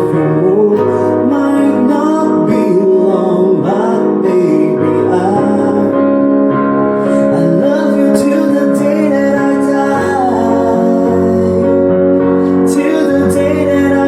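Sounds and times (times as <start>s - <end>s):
piano: 0.0s - 14.0s
sustained keyboard chords: 0.0s - 14.0s.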